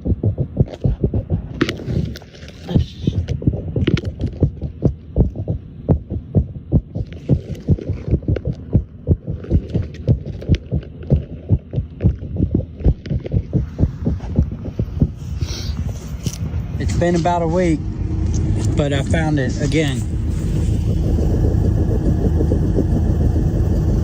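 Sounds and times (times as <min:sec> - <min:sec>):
low thumping vibration: 0:00.0 - 0:24.0.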